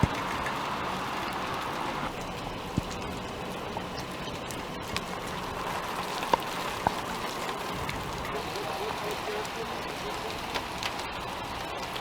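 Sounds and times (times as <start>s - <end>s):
hiss of falling rain: 0.0s - 12.0s.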